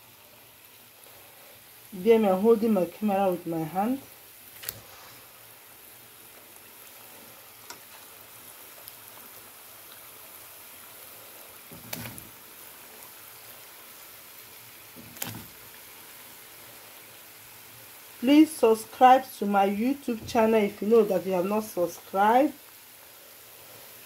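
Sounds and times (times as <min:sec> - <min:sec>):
dough sizzling in hot oil: 0:00.0 - 0:24.0.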